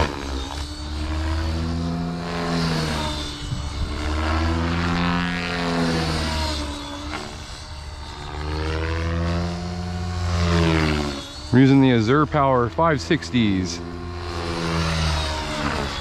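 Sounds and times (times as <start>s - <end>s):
rc helicopter rotor buzzing: 0.0s - 16.0s.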